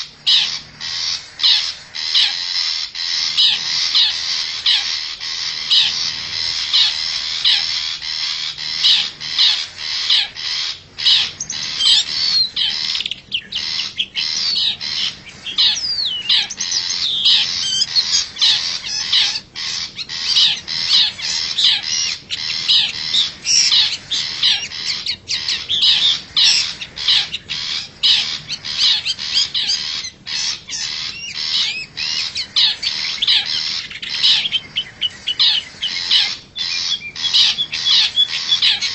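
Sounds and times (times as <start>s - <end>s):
harsh bird calls: 0.0s - 38.9s.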